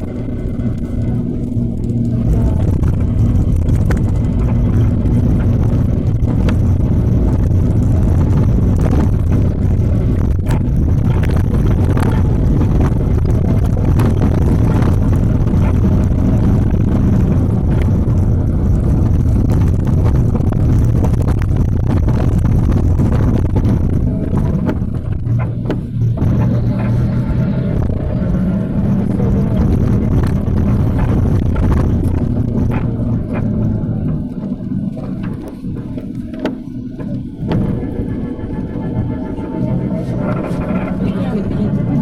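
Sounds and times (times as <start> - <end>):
minibus engine: 0.0 - 42.0
road rumble: 0.0 - 42.0
small knocks and rattles: 0.0 - 42.0.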